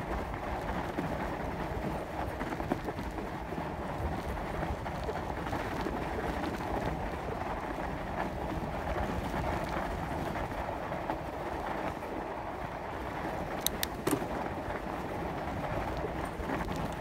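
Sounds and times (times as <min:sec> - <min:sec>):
bicycle tyres rolling on snow: 0:00.0 - 0:17.0.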